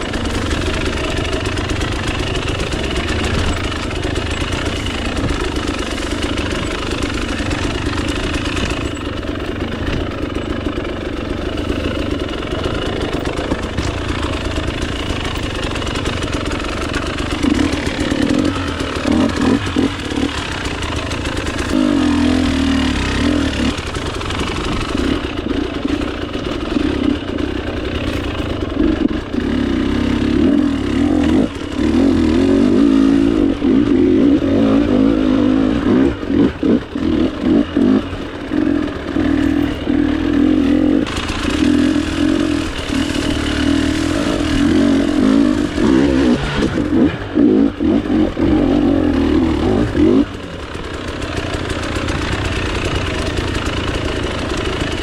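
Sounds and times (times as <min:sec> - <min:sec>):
two-stroke dirt bike engine: 0:00.0 - 0:55.0.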